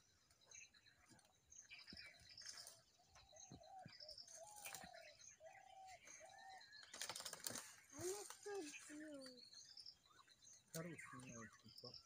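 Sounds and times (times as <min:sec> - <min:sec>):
high bird chirps: 0:00.0 - 0:12.0
lower-pitched bird calls: 0:00.0 - 0:12.0.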